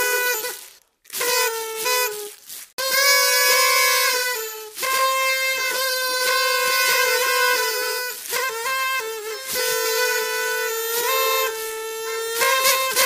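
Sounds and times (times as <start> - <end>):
party trumpets tooting: 0.0 - 13.0.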